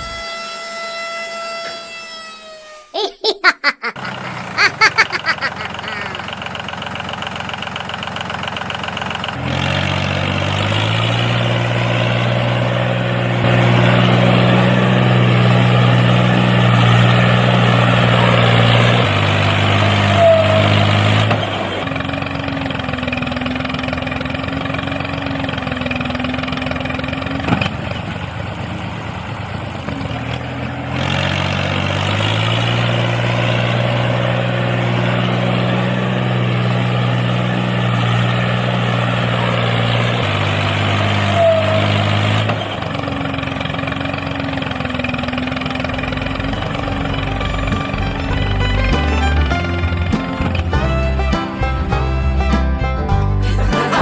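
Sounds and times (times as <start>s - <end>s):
small tractor engine running: 4.0s - 54.0s.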